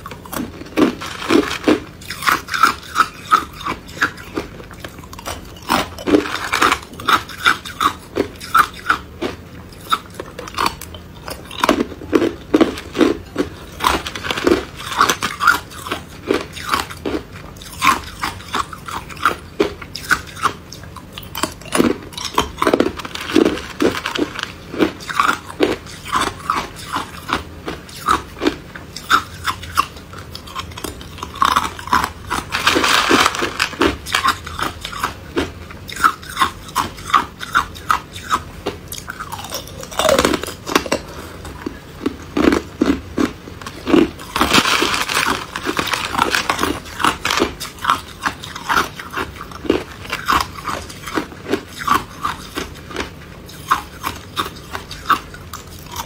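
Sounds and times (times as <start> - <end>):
crunching ice between teeth: 0.0 - 56.0.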